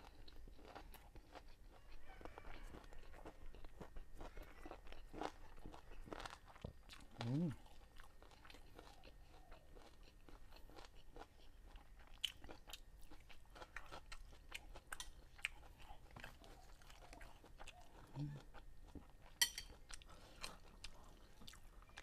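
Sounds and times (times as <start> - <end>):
person chewing with wet clicks: 0.0 - 22.0.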